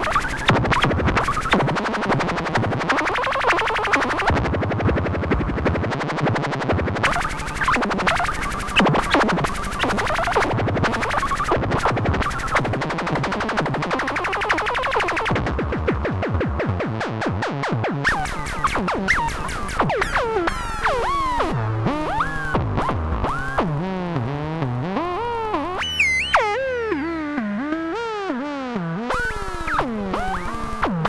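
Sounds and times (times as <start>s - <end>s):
synthesizer chirping glides: 0.0s - 4.3s, 7.0s - 15.3s, 18.0s - 31.0s
synthesizer clicking pulses: 0.0s - 31.0s.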